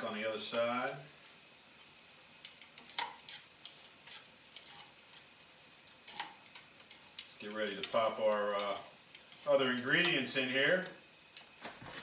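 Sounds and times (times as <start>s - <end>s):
tongs clicking on frying pan: 0.9s - 11.5s.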